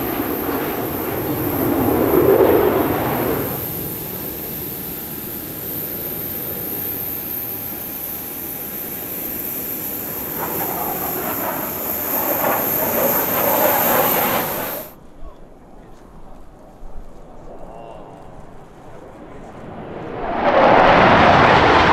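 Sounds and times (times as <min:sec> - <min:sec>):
jet engines flying overhead: 0:00.0 - 0:15.1, 0:15.8 - 0:21.9.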